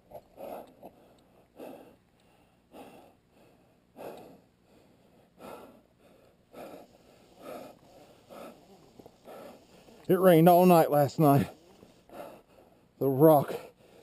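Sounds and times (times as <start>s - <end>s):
person breathing hard: 0.1s - 10.1s, 11.3s - 14.0s.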